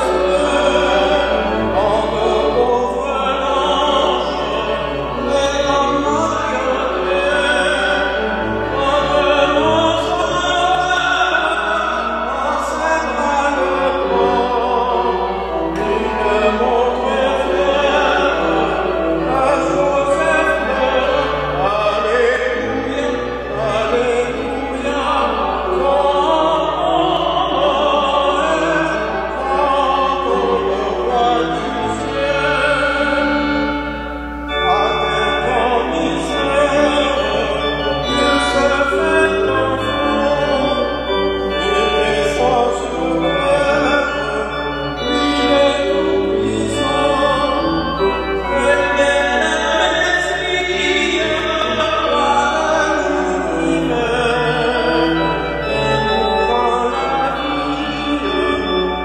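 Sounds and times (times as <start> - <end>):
orchestral accompaniment: 0.0 - 59.0
voices singing: 0.0 - 59.0.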